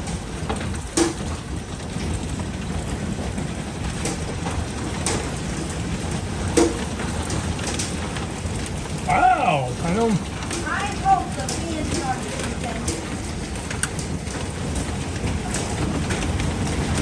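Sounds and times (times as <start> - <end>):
hail and rain on steel roof: 0.0 - 17.0.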